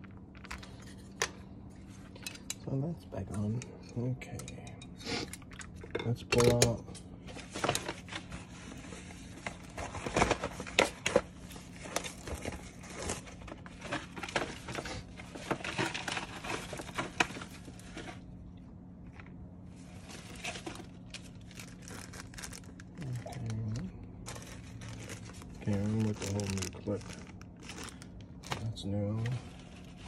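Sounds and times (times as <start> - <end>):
plastic packaging rustling: 0.0 - 2.2, 7.2 - 18.4, 19.0 - 30.0.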